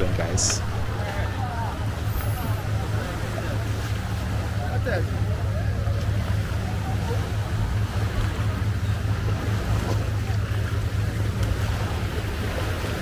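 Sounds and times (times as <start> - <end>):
outboard engines idling: 0.0 - 13.0
waves: 0.0 - 13.0
wind: 0.0 - 13.0.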